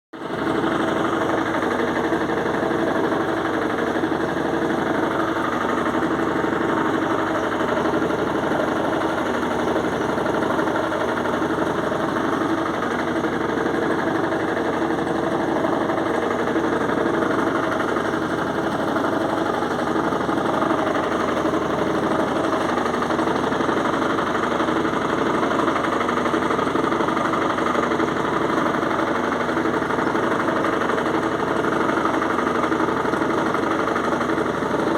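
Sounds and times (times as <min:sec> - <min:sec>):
washing machine spinning: 0:00.2 - 0:34.9.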